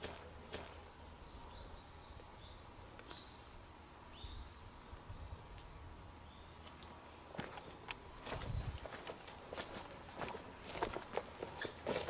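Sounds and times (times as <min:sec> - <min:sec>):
insect high-pitched trill: 0:00.0 - 0:12.0
faint short insect chirps: 0:00.2 - 0:11.9.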